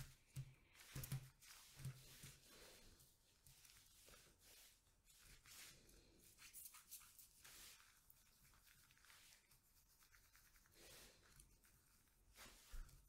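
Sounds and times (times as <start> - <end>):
gloved hands rubbing paper cards: 0.7 - 13.0.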